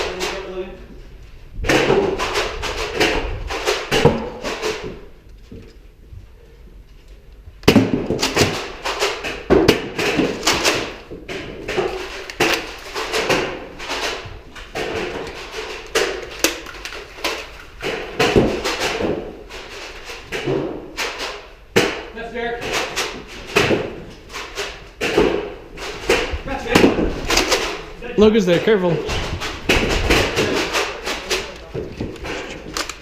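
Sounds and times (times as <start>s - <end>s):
foam balls striking surfaces: 1.6s - 5.1s, 7.6s - 32.7s.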